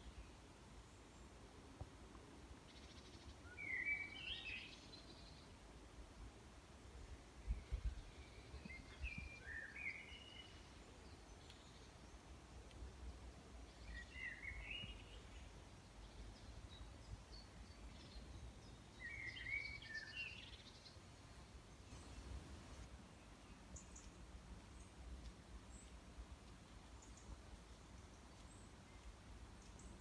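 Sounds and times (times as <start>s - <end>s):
songbird chirping: 2.6s - 5.6s, 7.4s - 30.0s.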